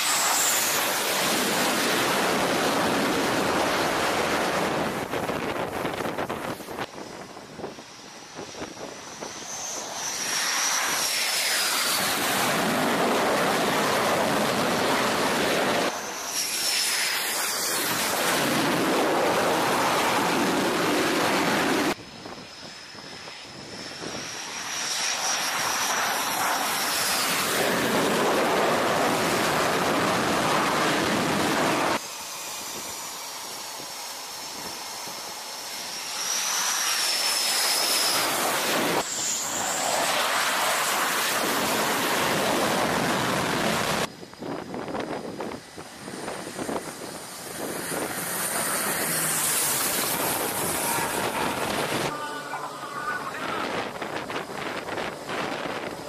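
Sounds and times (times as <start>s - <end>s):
fighter jet engines roaring: 0.0s - 56.0s.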